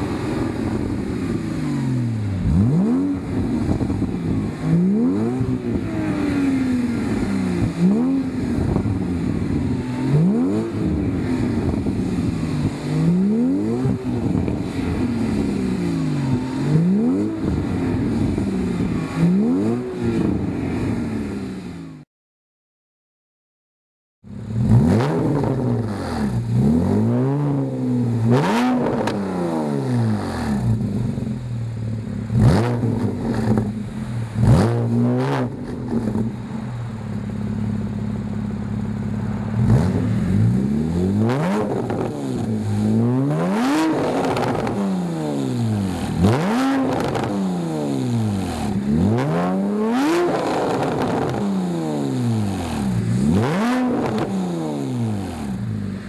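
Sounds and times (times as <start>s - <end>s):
car exhaust revving and idling: 0.0s - 22.0s, 24.2s - 56.0s.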